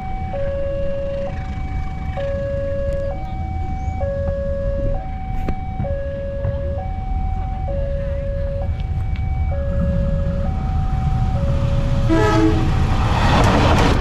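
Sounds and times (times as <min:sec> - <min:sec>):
level-crossing two-tone alarm: 0:00.0 - 0:12.5
low rumble: 0:00.0 - 0:14.0.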